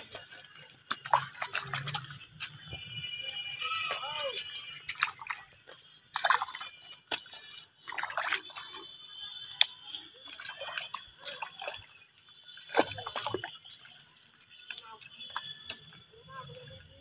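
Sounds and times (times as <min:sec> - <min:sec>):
wet fishing net handled: 0:00.0 - 0:16.5
fish slapping: 0:00.0 - 0:17.0
water splashing and dripping: 0:00.0 - 0:17.0.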